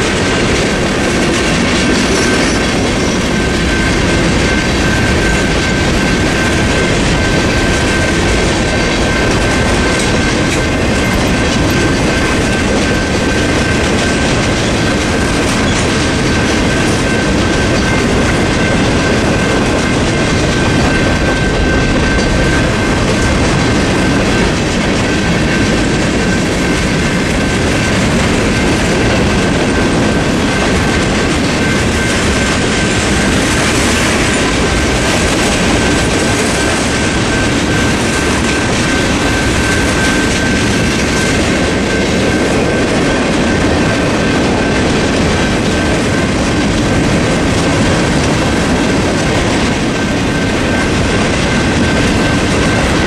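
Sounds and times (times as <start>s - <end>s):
crossing bell ringing: 0.0s - 53.0s
freight train wheels on rails: 0.0s - 53.0s.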